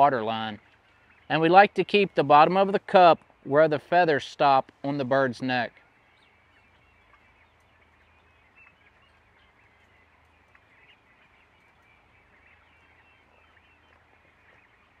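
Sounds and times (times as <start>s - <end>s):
young turkeys chirping: 0.0s - 15.0s.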